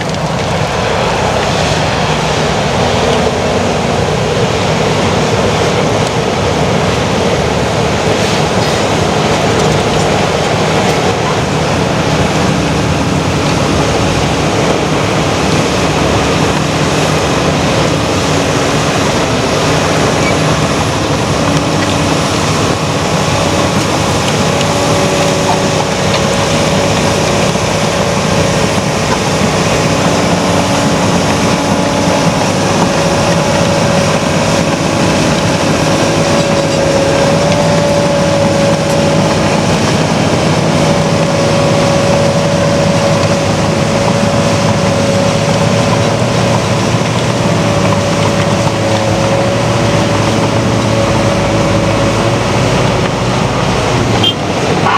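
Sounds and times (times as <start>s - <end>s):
diesel engines under load: 0.0s - 54.9s.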